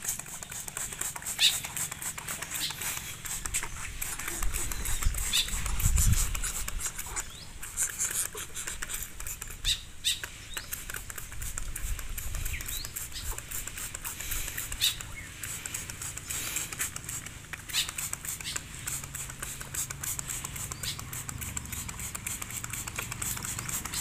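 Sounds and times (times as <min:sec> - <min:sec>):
spray bottle spritzing water: 0:00.0 - 0:24.0.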